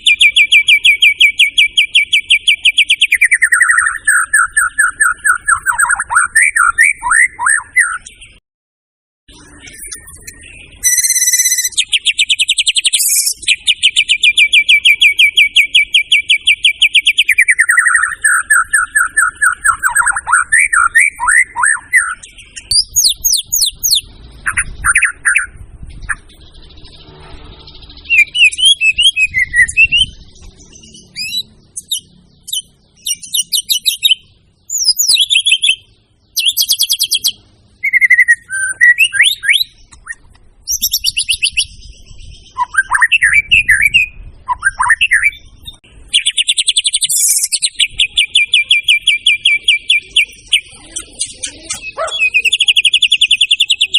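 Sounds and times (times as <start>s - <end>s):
songbird singing: 0.0s - 8.4s, 9.3s - 53.9s.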